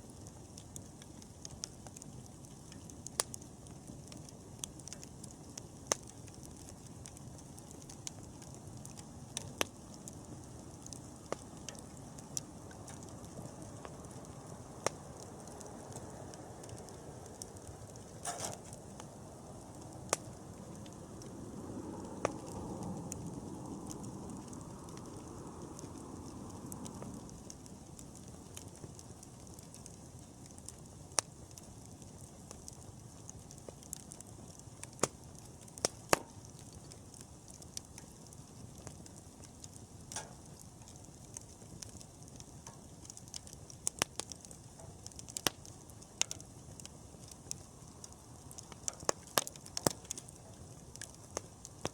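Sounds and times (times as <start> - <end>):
campfire flame rushing: 0.0 - 51.9
fire popping and crackling: 0.0 - 51.9.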